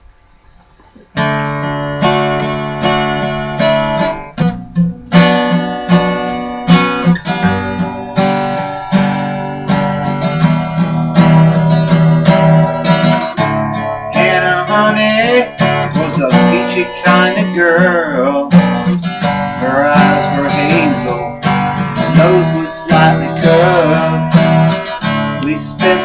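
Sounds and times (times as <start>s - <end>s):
acoustic guitar strumming chords: 0.9s - 26.0s.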